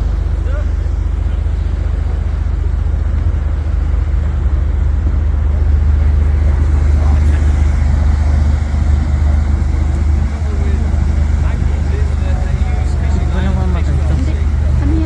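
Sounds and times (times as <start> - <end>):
speedboat engine droning: 0.0 - 15.0.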